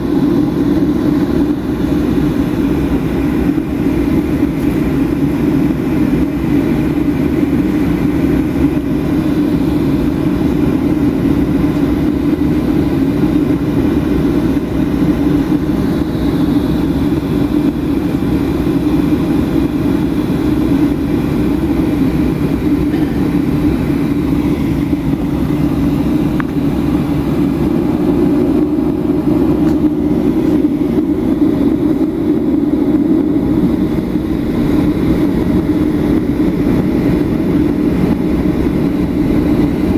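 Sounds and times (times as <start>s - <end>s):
airplane cabin jet engine drone: 0.0s - 39.9s.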